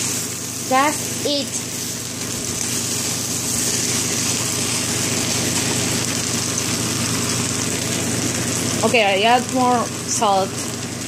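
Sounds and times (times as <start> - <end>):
fried rice sizzling in a wok: 0.0 - 11.0.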